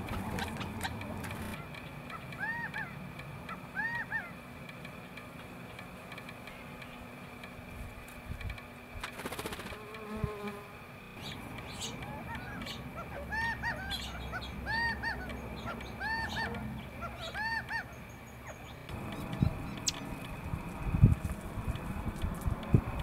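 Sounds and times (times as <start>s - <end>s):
woodpecker calling: 0.0s - 7.6s, 11.0s - 22.3s.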